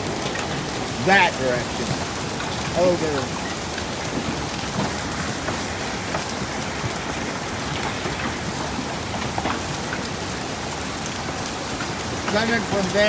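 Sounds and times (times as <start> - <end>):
hailstones clicking: 0.0 - 13.0
rain hissing: 0.0 - 13.0.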